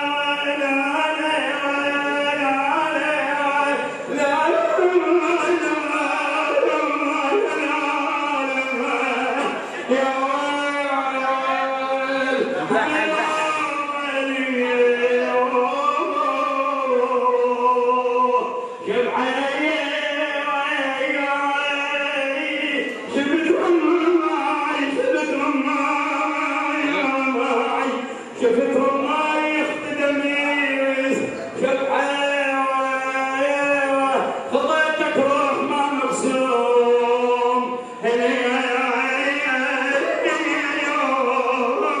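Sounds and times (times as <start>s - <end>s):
man singing religious elegy: 0.0s - 42.0s.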